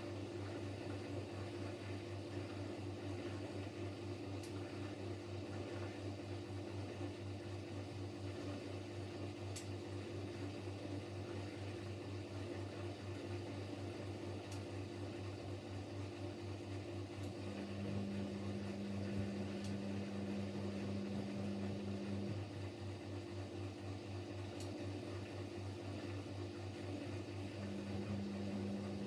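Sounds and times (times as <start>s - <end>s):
washing machine humming: 0.0s - 29.0s.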